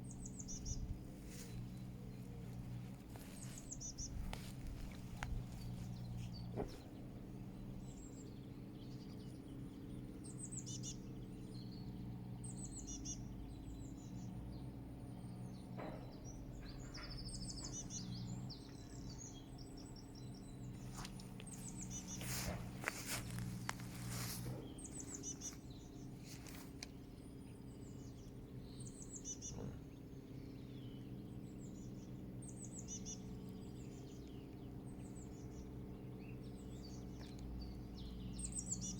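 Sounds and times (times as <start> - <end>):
low background hum: 0.0 - 38.9
small birds chirping: 0.0 - 38.9.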